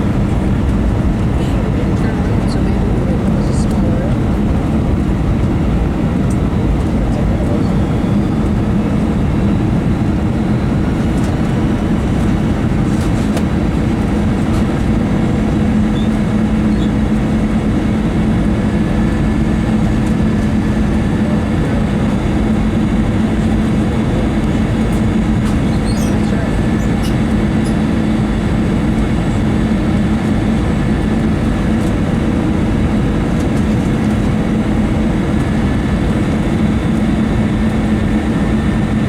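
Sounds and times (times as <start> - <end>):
airliner cabin engine roar: 0.0 - 39.0
steady low hum: 0.0 - 39.0.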